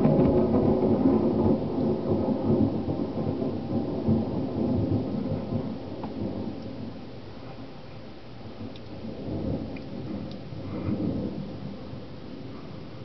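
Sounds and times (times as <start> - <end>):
rain falling: 0.0 - 13.0
thunder rumbling: 0.0 - 13.0.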